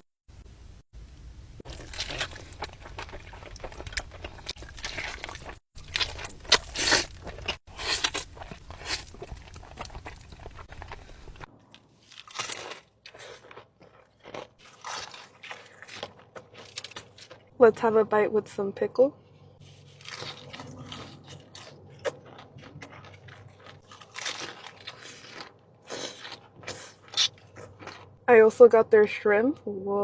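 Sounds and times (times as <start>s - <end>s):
crunchy biting and chewing: 1.7s - 17.5s, 19.6s - 28.2s.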